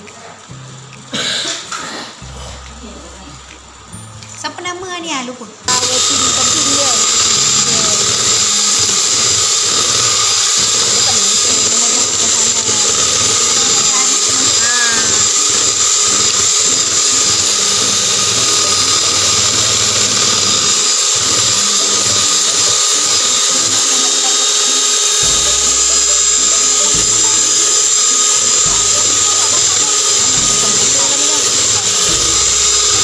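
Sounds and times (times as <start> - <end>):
electric hand mixer whining: 5.7 - 33.0.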